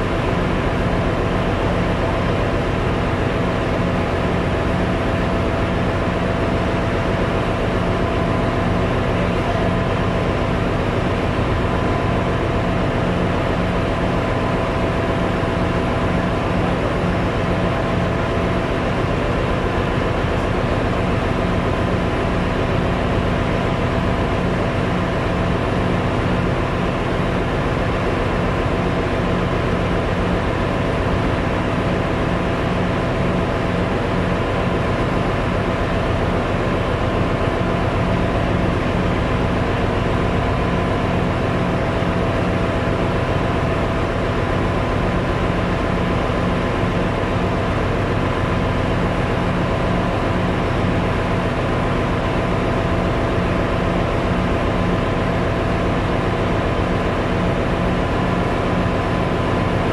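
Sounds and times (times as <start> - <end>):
engine room machinery drone: 0.0 - 59.9.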